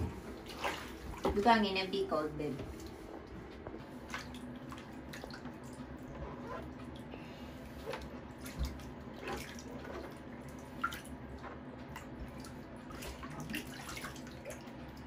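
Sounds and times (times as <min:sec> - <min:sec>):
bathwater splashing and dripping: 0:00.0 - 0:01.8, 0:02.6 - 0:15.0.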